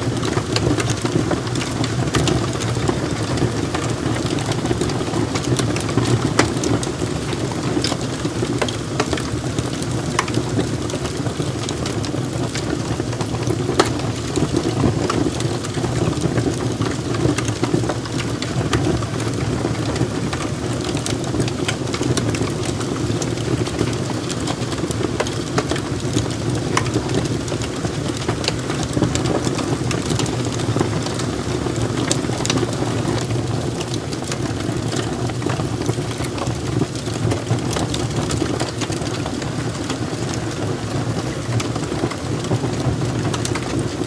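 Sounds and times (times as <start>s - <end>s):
burning wood crackling: 0.0s - 44.0s
fire rumbling: 0.0s - 44.0s.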